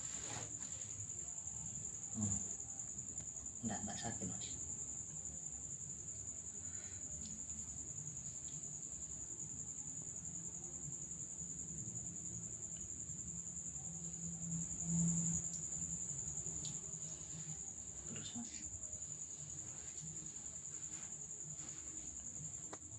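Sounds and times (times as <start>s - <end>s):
crickets chirring: 0.0s - 22.9s.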